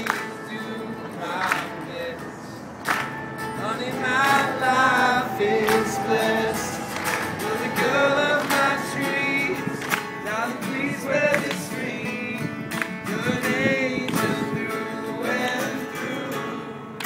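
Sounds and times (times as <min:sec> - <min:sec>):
man singing: 0:00.0 - 0:02.5, 0:03.6 - 0:16.8
acoustic guitar strumming: 0:00.0 - 0:17.0.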